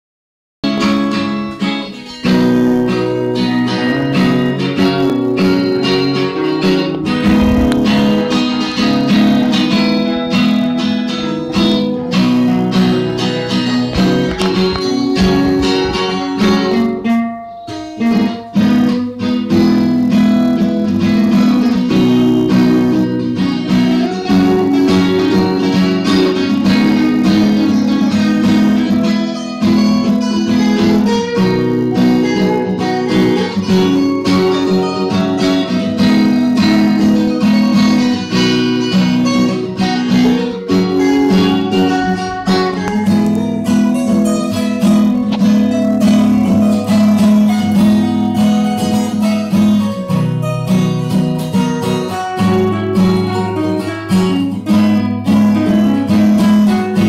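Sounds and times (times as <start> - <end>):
acoustic guitars playing together: 0.6 - 57.0.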